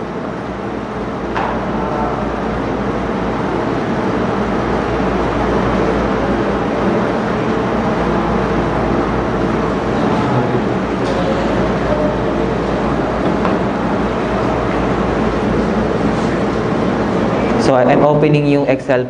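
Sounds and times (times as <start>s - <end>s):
steady machine hum and hiss: 0.0s - 19.0s.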